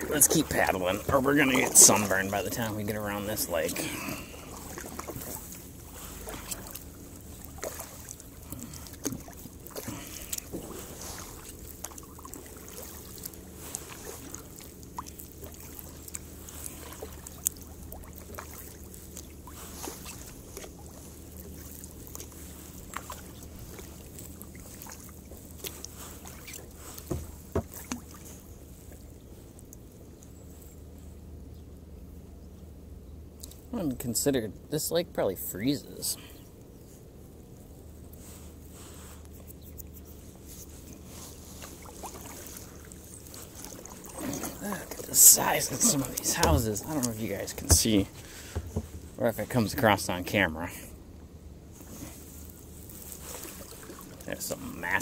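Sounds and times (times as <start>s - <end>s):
paddle strokes swishing in water: 0.0s - 29.8s, 38.1s - 49.6s, 51.7s - 55.0s.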